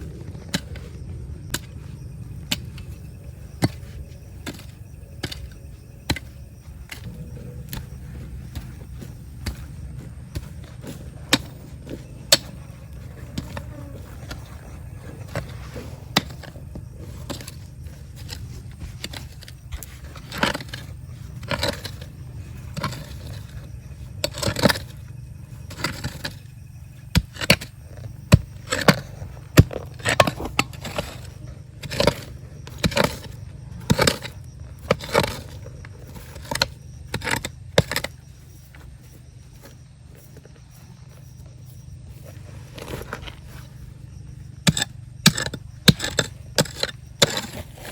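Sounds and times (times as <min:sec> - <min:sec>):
rocks and gravel scraping: 0:00.0 - 0:47.9.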